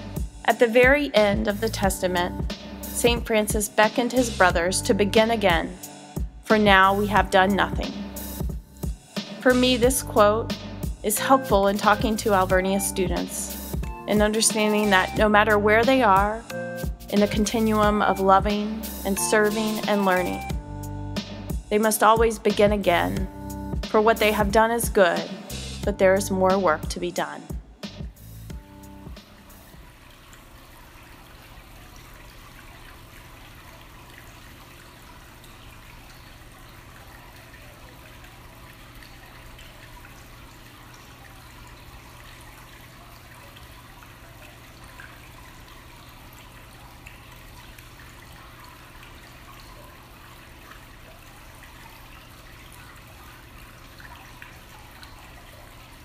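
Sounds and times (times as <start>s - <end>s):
water trickling and splashing: 0.0s - 20.6s, 28.2s - 56.0s.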